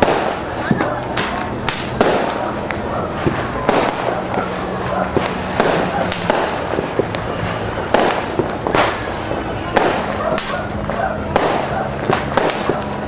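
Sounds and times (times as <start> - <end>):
crackling explosions: 0.0 - 13.0
fireworks bangs: 0.0 - 13.0.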